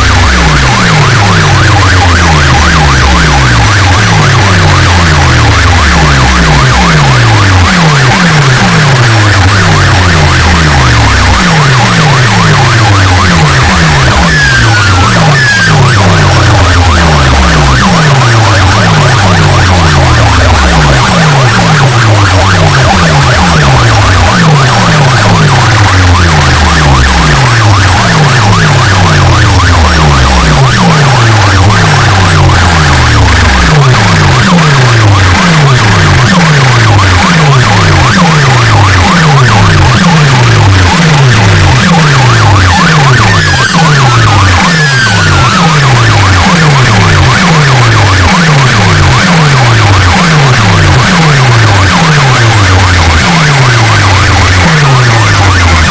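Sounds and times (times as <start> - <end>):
siren-like falling bass sweep: 0.0 - 55.9.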